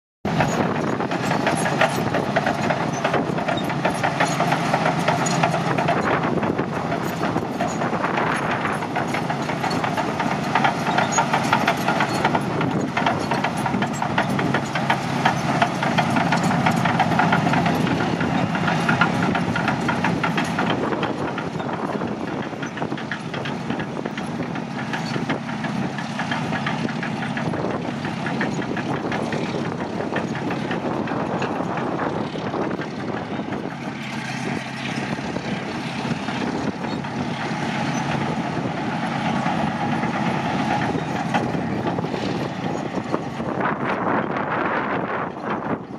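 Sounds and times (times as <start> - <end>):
bulldozer diesel engine running: 0.3 - 45.9
metallic clatter of steel tracks: 0.3 - 45.9.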